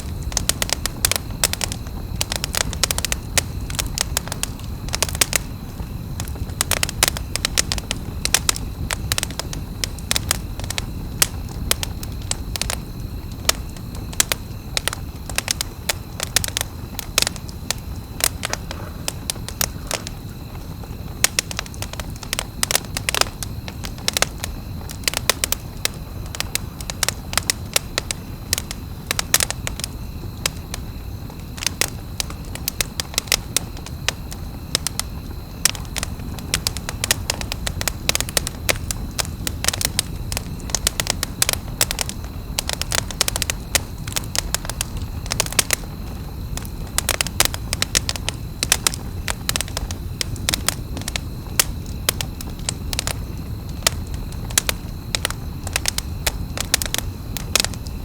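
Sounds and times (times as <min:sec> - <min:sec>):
burning wood popping: 0:00.0 - 0:58.0
campfire crackling: 0:00.0 - 0:58.0
low rumble of flames: 0:00.0 - 0:58.0.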